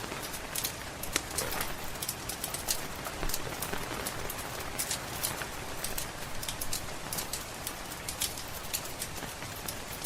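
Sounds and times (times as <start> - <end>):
rain hiss: 0.0 - 10.0
wood fire crackling: 0.0 - 10.0.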